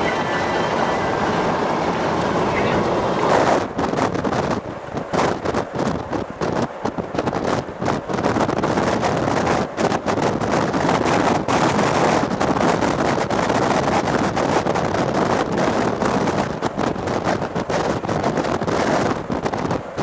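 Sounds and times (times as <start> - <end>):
vehicle running and road noise: 0.0 - 20.0
wind buffeting microphone: 0.0 - 20.0.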